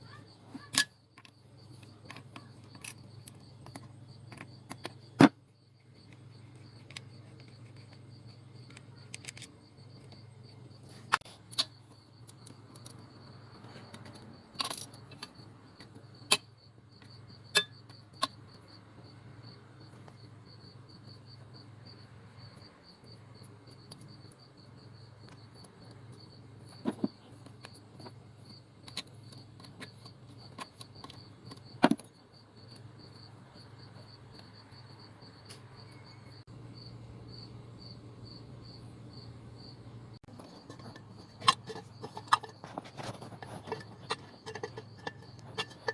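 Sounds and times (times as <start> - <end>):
insect chirping: 0.0 - 45.9.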